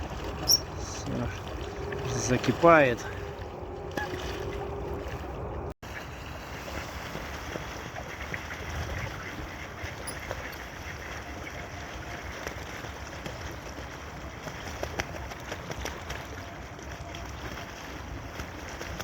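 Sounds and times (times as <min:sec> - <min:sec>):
water wash: 0:00.0 - 0:19.0.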